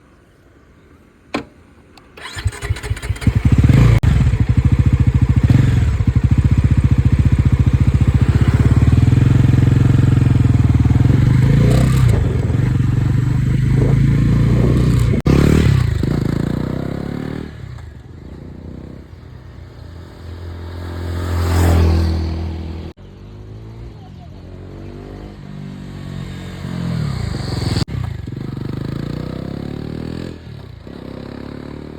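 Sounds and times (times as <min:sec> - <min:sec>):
motorcycle engine idling and revving: 0:02.2 - 0:31.9.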